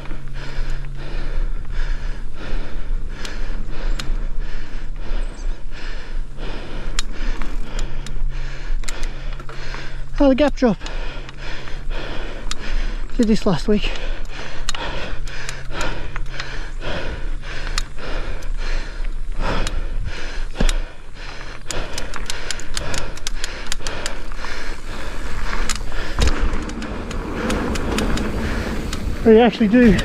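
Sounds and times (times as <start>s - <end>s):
mountain bike rattling over bumps: 0.0s - 30.0s
rider breathing: 0.0s - 30.0s.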